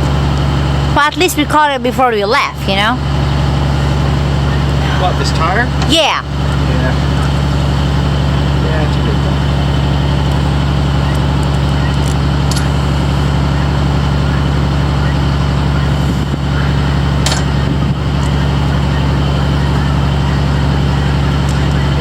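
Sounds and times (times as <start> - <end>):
vehicle engine drone and road noise: 0.0 - 22.0.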